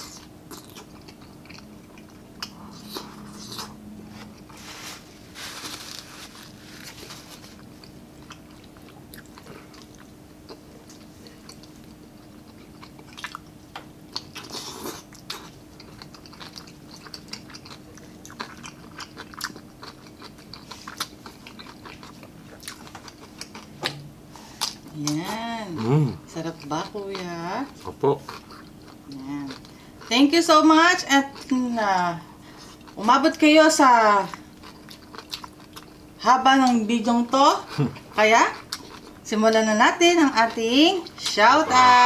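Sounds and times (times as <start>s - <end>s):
chewing vegetables: 0.0s - 30.3s, 31.0s - 31.6s, 32.4s - 39.3s.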